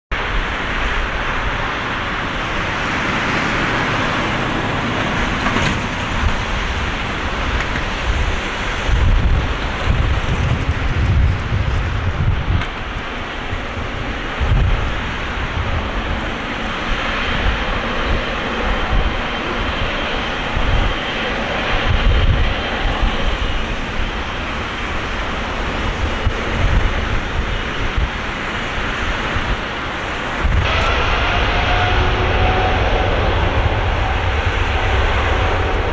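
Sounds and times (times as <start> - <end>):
gusty low rumble: 0.1 - 35.9
jet engines roaring: 0.1 - 35.9.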